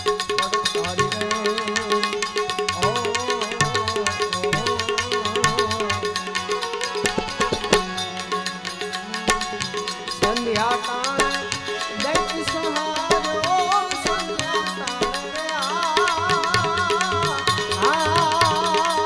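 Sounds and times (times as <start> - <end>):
harmonium chords: 0.0 - 19.0
man singing: 0.0 - 19.0
tabla strokes: 0.0 - 19.0.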